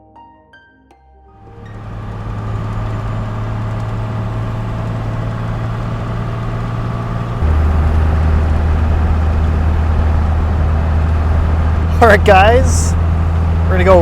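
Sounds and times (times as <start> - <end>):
truck engine and road drone: 1.5 - 14.0.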